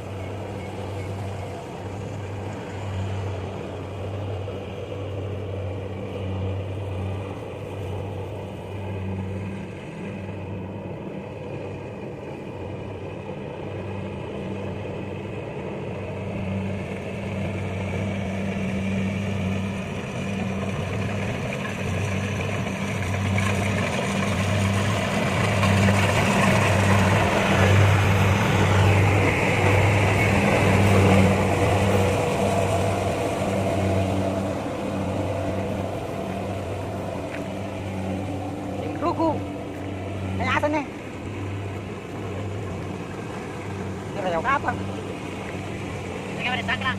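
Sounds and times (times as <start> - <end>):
combine harvester running: 0.0 - 46.9.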